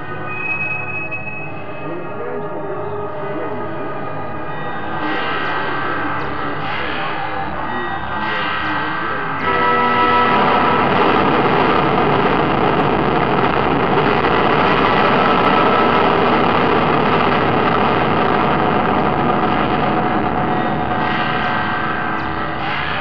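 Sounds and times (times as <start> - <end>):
distorted electric guitar drone: 0.0 - 23.0.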